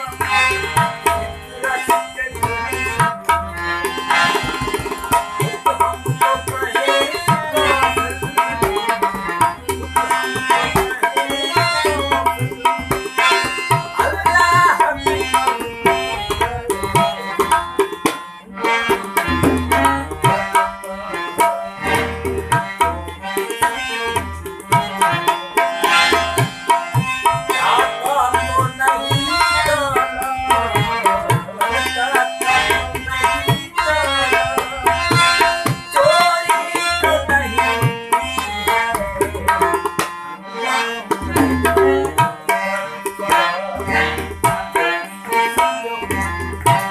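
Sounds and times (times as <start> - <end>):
pitch-bending melody: 0.0 - 46.0
tabla playing rhythm: 0.0 - 46.9.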